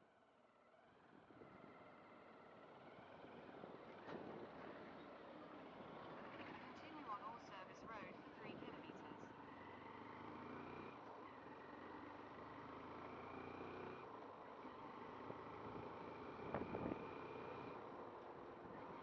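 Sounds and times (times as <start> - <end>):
faint road traffic: 0.0 - 19.0.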